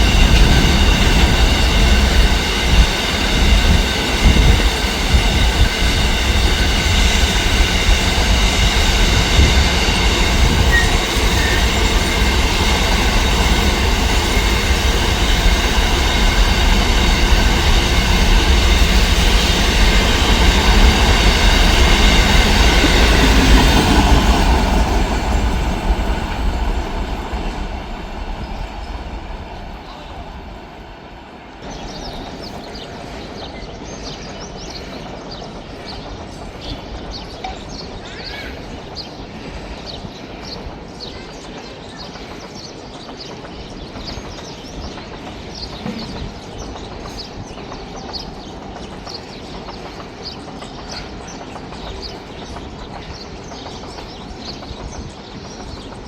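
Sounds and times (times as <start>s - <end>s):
train rumbling past: 0.0s - 56.0s
small birds chirping: 1.0s - 56.0s.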